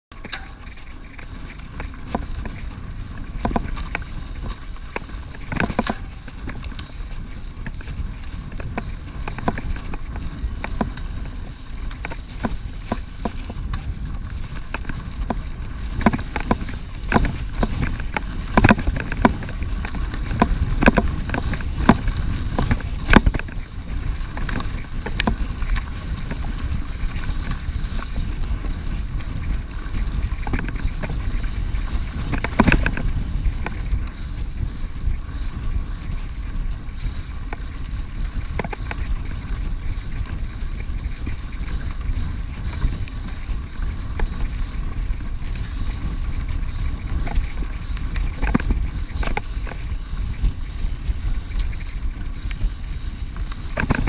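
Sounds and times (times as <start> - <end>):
rumble of wind and tyres: 0.0 - 54.0
bike rattling over bumps: 0.1 - 54.0.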